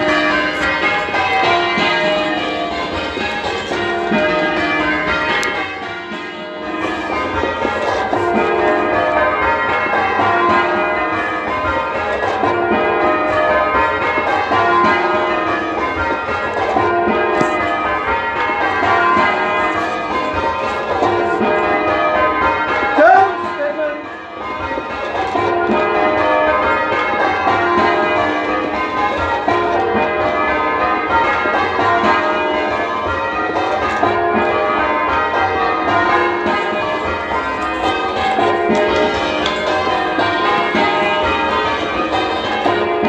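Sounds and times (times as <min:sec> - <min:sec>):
church bells change ringing: 0:00.0 - 0:43.0.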